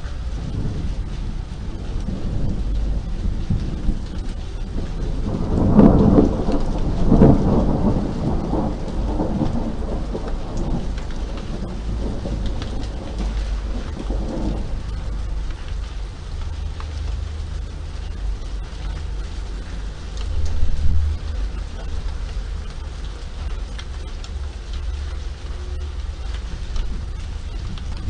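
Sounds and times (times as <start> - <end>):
low roll of thunder: 0.0 - 28.0
steady rain falling: 0.0 - 28.0.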